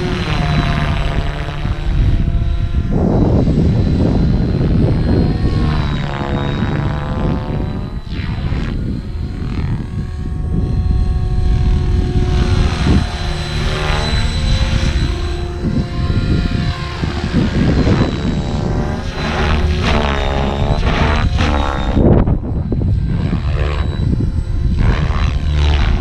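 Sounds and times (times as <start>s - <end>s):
electric motor whine: 0.0s - 26.0s
helicopter rotor chop: 0.0s - 26.0s.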